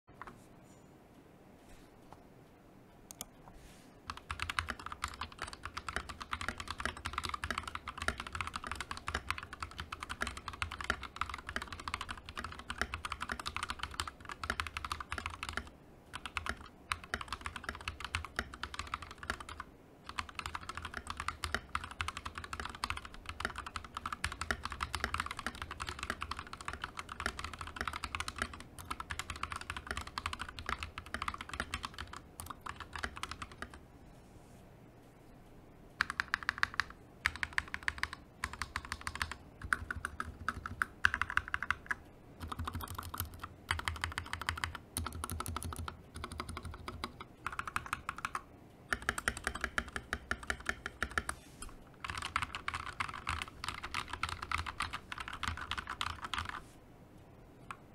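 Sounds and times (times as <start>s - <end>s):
fast typing on mechanical keyboard: 4.0s - 33.8s, 36.0s - 51.4s, 52.0s - 56.6s.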